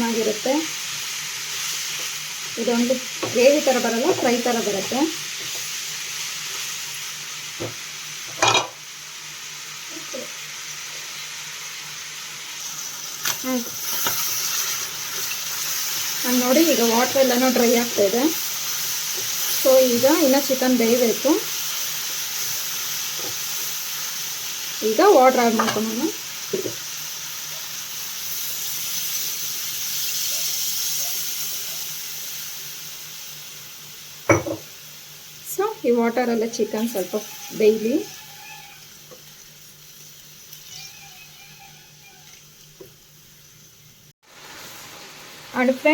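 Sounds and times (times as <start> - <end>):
chicken sizzling in hot oil: 0.0 - 45.9.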